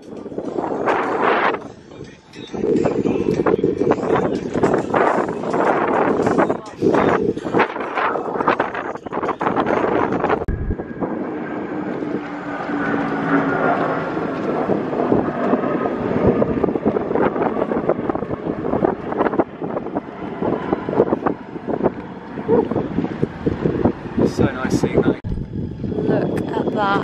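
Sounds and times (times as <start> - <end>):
wind buffeting microphone: 0.0 - 27.0
motorboat engine running: 2.8 - 24.3, 25.2 - 27.0.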